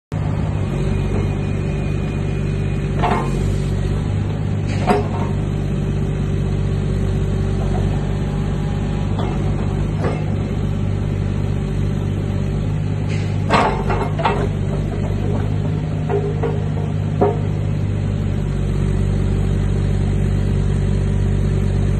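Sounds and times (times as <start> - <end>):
excavator diesel engine running: 0.1 - 21.9.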